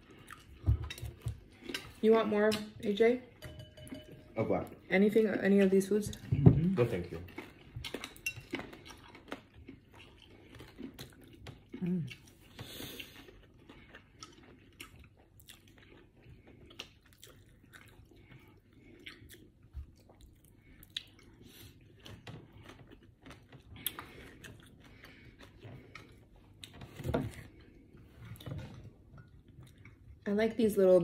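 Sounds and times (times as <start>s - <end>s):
person chewing food: 0.0s - 2.0s, 6.1s - 30.2s.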